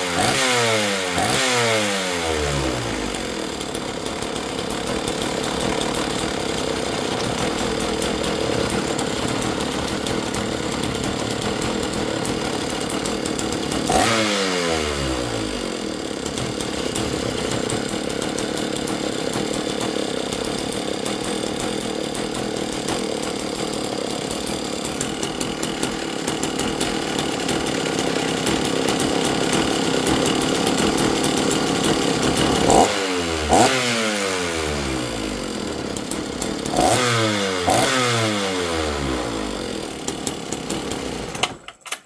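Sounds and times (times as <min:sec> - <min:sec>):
chainsaw running at high speed: 0:00.0 - 0:42.0.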